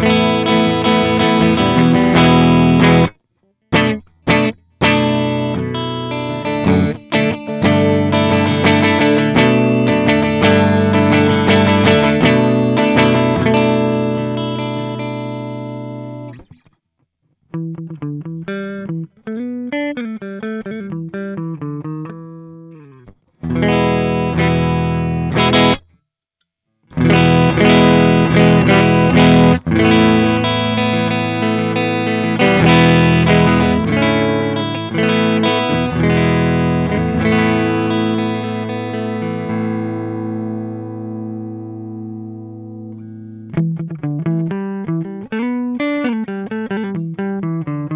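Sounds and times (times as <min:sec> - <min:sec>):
electric guitar picked notes: 0:00.0 - 0:16.6, 0:17.5 - 0:25.9, 0:26.9 - 0:47.9
electric guitar strummed chords: 0:00.0 - 0:16.6, 0:17.5 - 0:25.9, 0:26.9 - 0:47.9.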